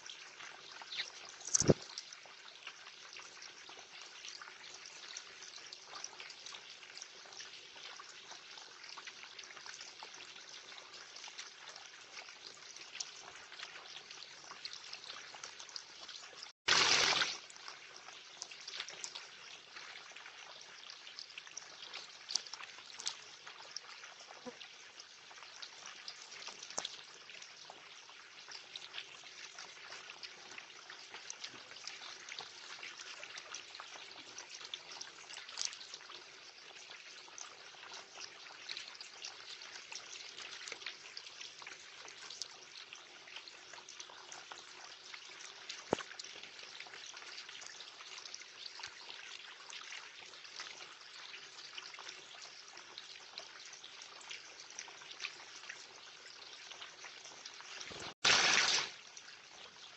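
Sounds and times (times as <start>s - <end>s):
bird bathing in water: 0.0s - 59.9s
small splashes and drips: 0.0s - 59.9s
water trickling into pool: 0.0s - 59.9s.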